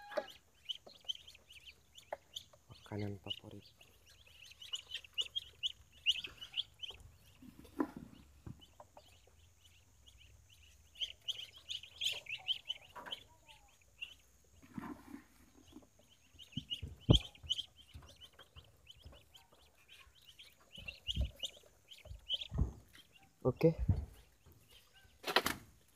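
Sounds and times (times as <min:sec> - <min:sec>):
ducklings peeping: 0:00.0 - 0:25.9.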